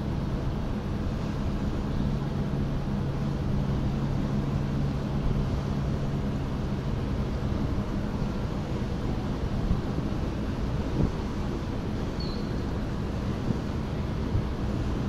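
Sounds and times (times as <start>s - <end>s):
ferry diesel engines droning: 0.0s - 15.0s
water noise: 0.0s - 15.0s
wind: 0.0s - 15.0s.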